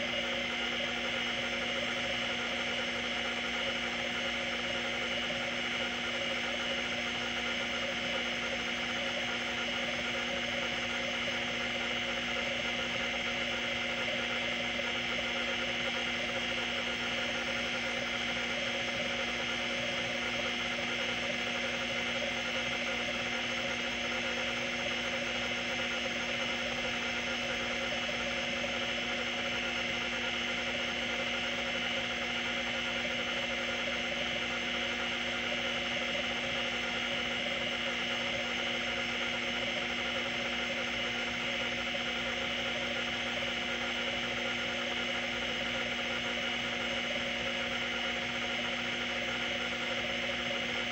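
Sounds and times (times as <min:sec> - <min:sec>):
hard drive whine and buzz: 0:00.0 - 0:50.9.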